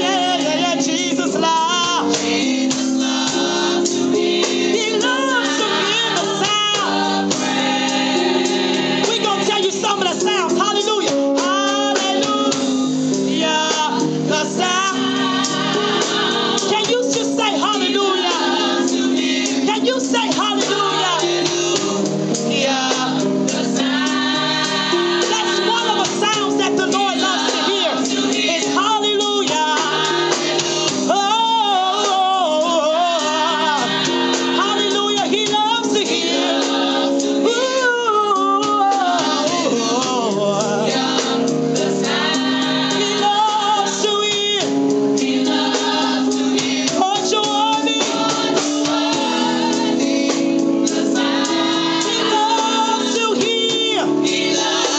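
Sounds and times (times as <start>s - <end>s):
person singing gospel with vibrato: 0.0s - 54.9s
sustained instrumental chords: 0.0s - 54.9s.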